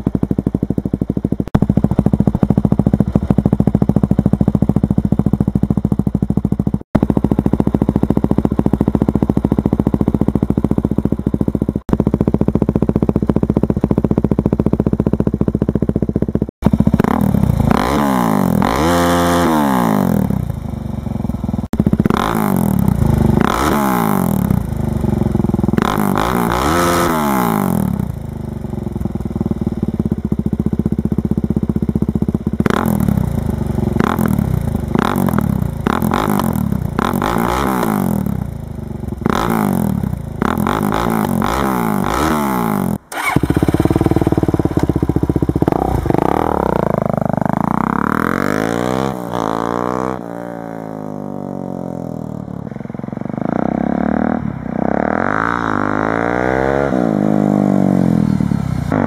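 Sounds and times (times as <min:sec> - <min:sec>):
motorcycle accelerating through gears: 0:00.0 - 0:59.0
motorcycle engine revving: 0:00.0 - 0:59.0.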